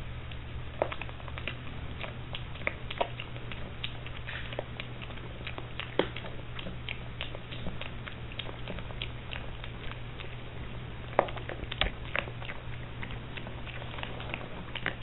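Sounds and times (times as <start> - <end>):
low hum: 0.0 - 15.0
piglet crunching food pellets: 0.0 - 15.0.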